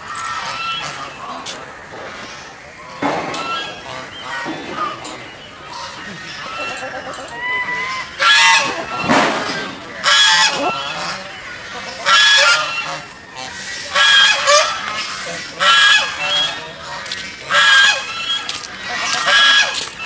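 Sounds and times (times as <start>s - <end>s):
geese honking: 0.0s - 20.0s.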